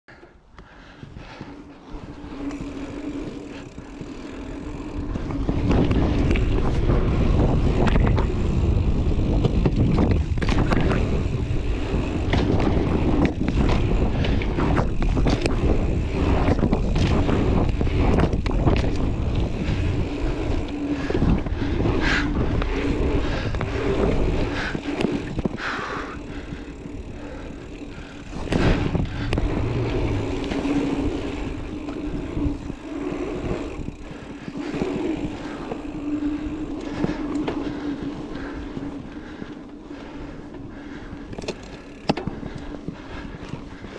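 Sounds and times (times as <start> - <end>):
bike tyres rumbling on dirt: 0.7 - 43.9
wind buffeting microphone: 1.0 - 43.9
bike knocks and rattles: 2.4 - 38.6, 41.3 - 43.9.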